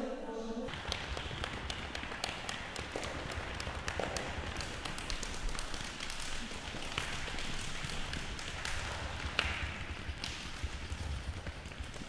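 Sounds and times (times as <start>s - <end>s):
steady hiss: 0.7s - 12.0s.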